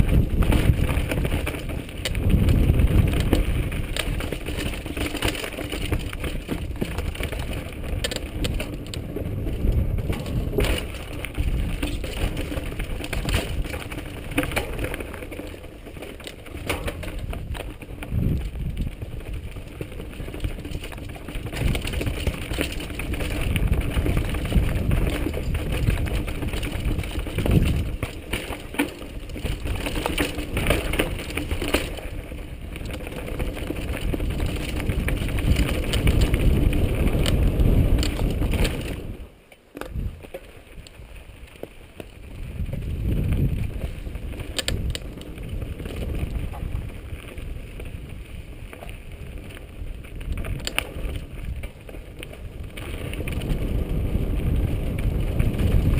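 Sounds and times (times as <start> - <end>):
bike rattling and knocking: 0.0 - 55.9
tyres crunching over stones: 0.0 - 55.9
wind rumbling on microphone: 0.0 - 55.9.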